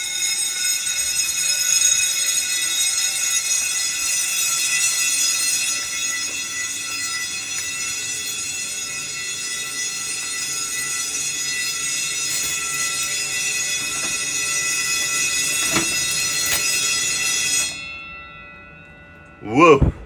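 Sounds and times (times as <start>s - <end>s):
fire alarm bells ringing: 0.0s - 19.9s.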